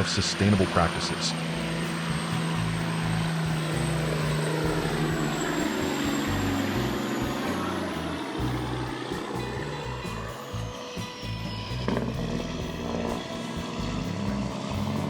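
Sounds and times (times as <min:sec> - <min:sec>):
truck engine hum: 0:00.0 - 0:15.0
tyre and road noise: 0:00.0 - 0:15.0.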